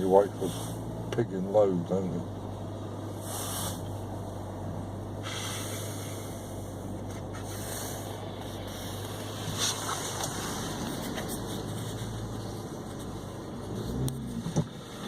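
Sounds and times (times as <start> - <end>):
car engine hum: 0.0 - 15.0
road and tyre noise: 0.0 - 15.0.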